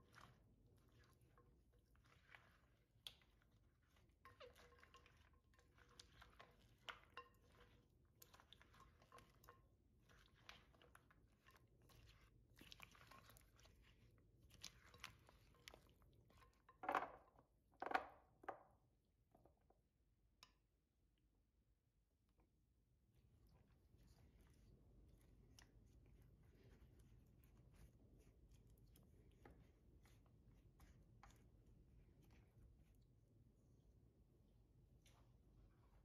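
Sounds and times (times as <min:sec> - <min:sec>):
spatula folding sticky mixture: 0:00.0 - 0:18.9, 0:22.4 - 0:36.0.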